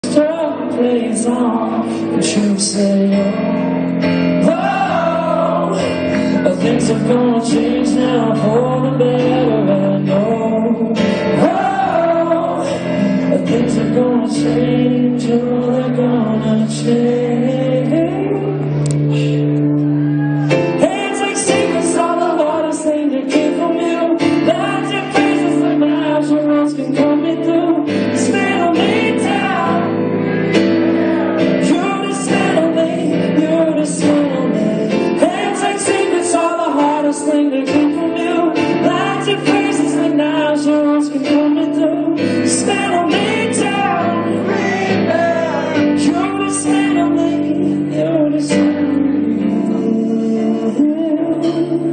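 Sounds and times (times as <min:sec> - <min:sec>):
person singing: 0:00.0 - 0:51.9
strummed guitar chords: 0:00.0 - 0:51.9.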